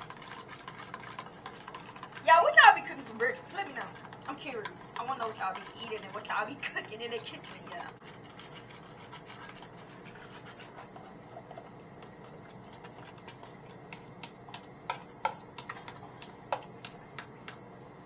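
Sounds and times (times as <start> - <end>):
utensil scraping cookware: 0.0 - 17.6.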